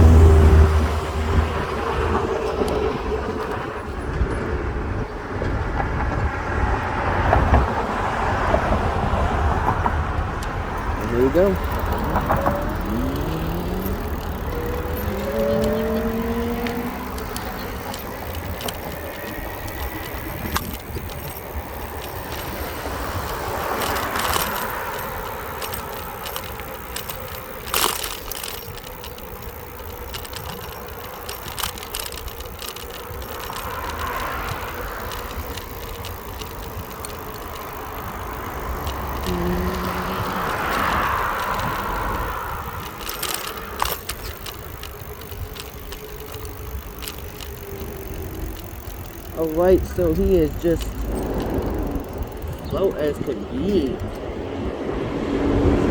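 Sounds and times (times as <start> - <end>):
cars passing: 0.0 - 55.9
wind and tyre rumble: 0.0 - 55.9.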